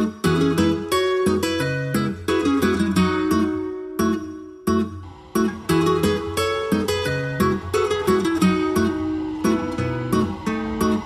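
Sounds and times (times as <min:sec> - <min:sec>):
plucked string instruments melody: 0:00.0 - 0:11.0.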